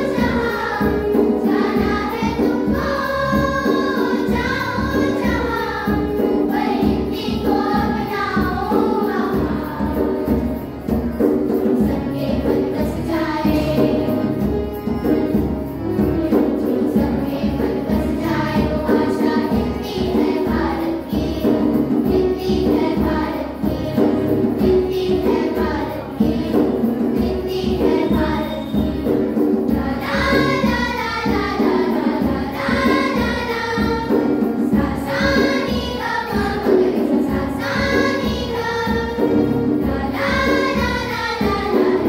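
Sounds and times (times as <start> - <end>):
acoustic guitar: 0.0 - 42.0
children's choir singing: 0.0 - 42.0
hand drum beat: 0.0 - 42.0
keyboard: 0.0 - 42.0.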